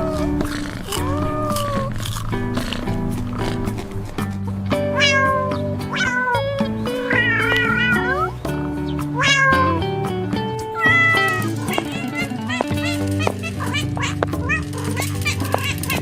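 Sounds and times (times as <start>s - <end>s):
cat meowing: 0.0s - 8.4s, 9.1s - 9.8s, 10.7s - 16.0s
background music: 0.0s - 16.0s.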